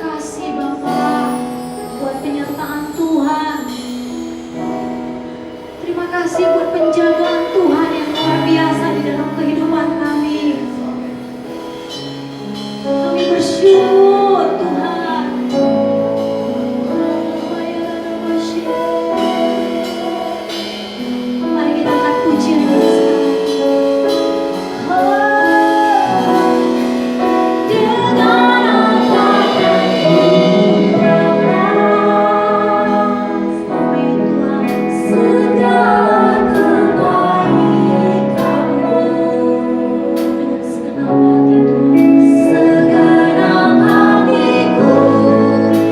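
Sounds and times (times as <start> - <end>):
woman singing: 0.0 - 11.9, 12.5 - 45.9
instrumental accompaniment with held chords: 0.0 - 45.9.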